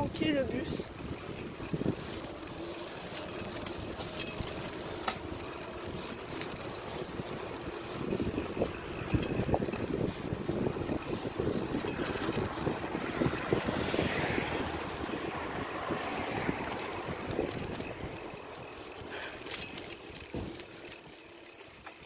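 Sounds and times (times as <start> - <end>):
wind buffeting microphone: 0.0 - 19.2
road rumble: 0.0 - 22.0.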